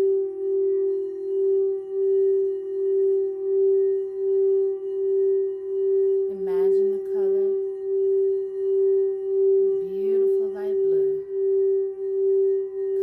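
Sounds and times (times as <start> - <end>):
singing bowl tone: 0.0 - 13.0.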